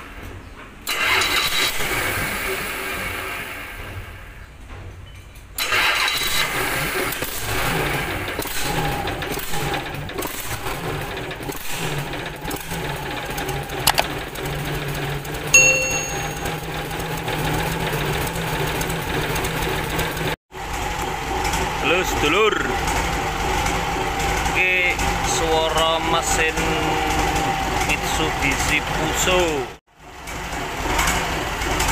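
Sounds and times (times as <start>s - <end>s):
diesel engine starting and running: 0.0s - 4.5s, 5.6s - 31.9s.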